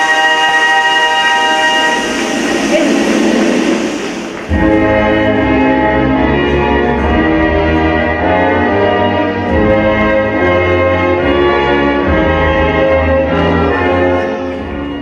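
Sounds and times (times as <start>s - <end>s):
orchestral music with brass chords: 0.0s - 15.0s.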